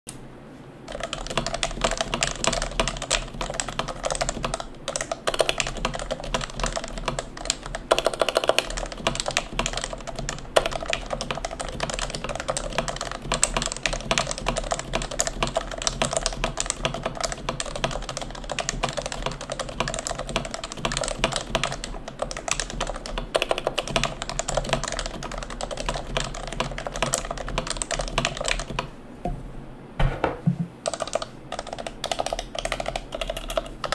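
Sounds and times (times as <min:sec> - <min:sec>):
fast keyboard typing: 0:00.9 - 0:28.9, 0:30.8 - 0:33.9.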